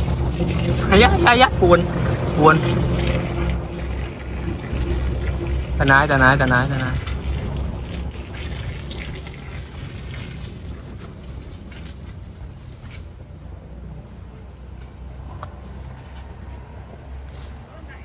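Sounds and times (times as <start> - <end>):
insects trilling: 0.0 - 18.0
low rumbling noise: 0.0 - 18.0.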